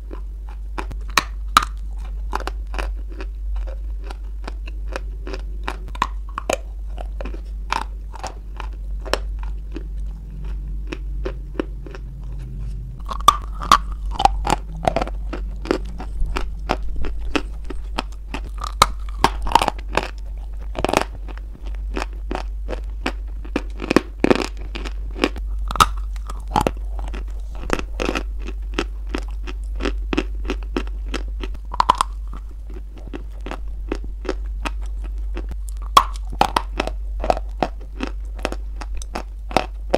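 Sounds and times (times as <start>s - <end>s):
crunchy chewing of chalk: 0.0s - 39.9s
low steady hum: 0.0s - 39.9s.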